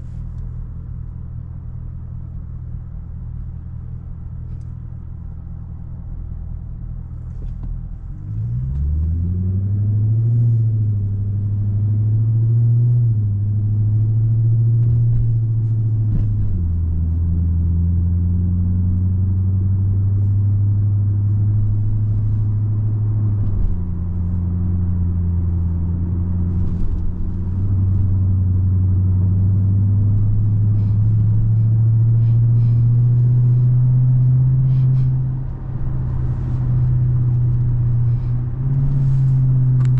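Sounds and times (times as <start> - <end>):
car engine accelerating: 7.0 - 39.9.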